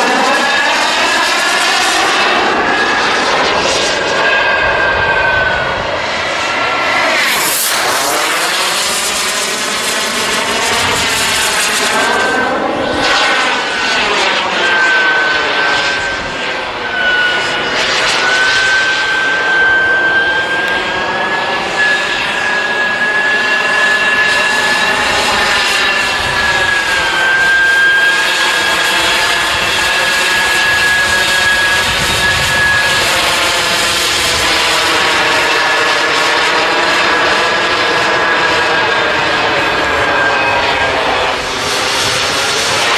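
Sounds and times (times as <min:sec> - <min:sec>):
model jet turbine whining: 0:00.0 - 0:42.9.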